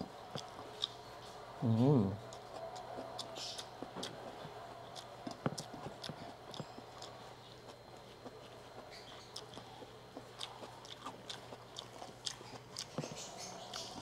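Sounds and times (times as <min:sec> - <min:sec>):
faint chewing: 0:00.0 - 0:14.0
low steady hum: 0:00.0 - 0:14.0.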